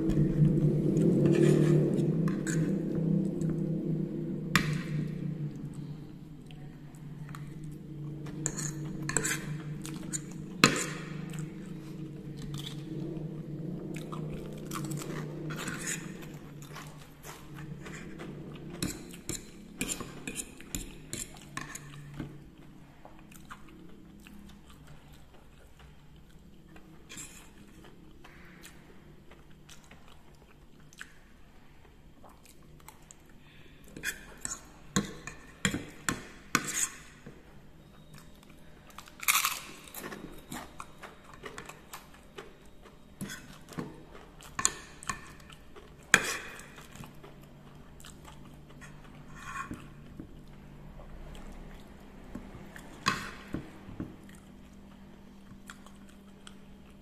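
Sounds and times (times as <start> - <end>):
chewing crunchy food: 7.2 - 36.0, 37.8 - 57.0.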